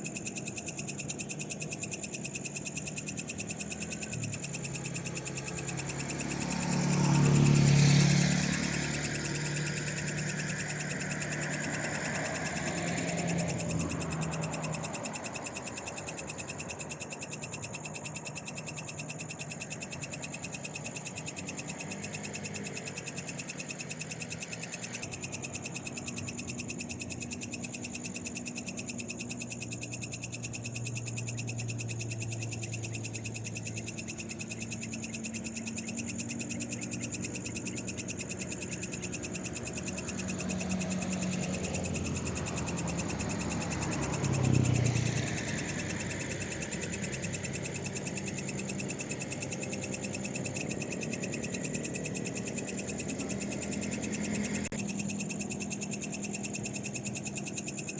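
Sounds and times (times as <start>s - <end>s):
frogs calling: 0.0s - 57.9s
insects trilling: 0.0s - 57.9s.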